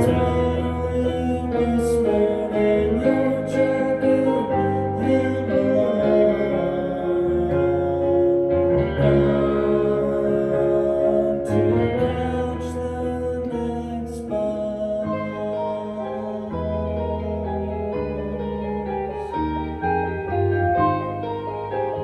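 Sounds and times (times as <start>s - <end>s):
guitar chords: 0.0s - 22.0s
low bass notes: 0.0s - 22.0s.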